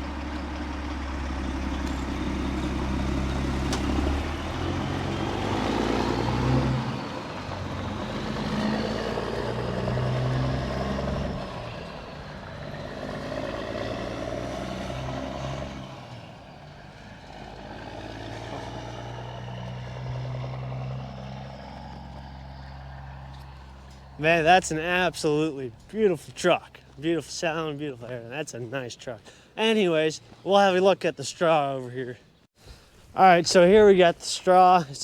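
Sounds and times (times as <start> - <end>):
diesel truck engine pulling away: 0.0 - 30.9.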